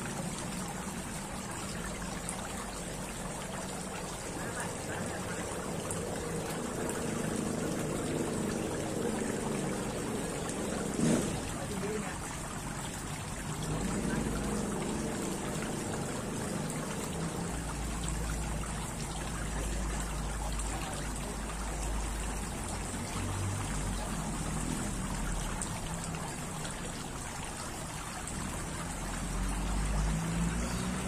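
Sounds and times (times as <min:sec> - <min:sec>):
fountain water trickling and splashing: 0:00.0 - 0:31.0.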